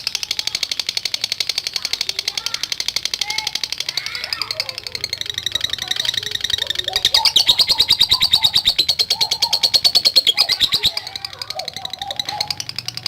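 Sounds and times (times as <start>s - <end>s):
bird chattering trill: 0.0s - 13.0s.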